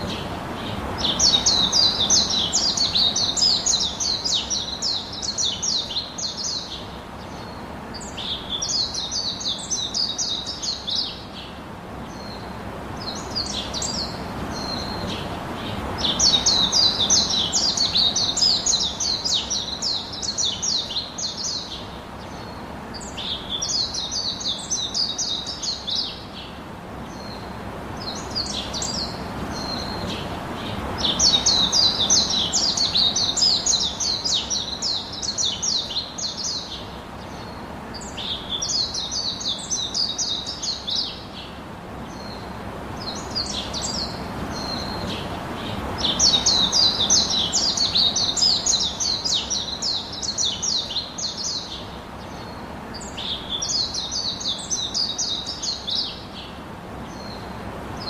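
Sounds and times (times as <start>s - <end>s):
background hiss: 0.0s - 58.0s
small birds twittering: 0.0s - 58.0s.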